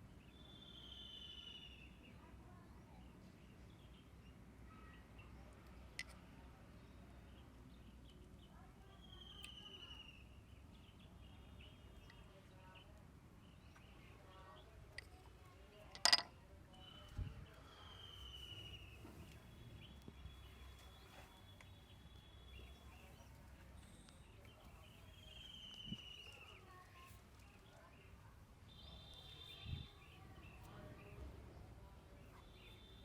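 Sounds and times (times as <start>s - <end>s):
faint outdoor hum: 0.0s - 33.0s.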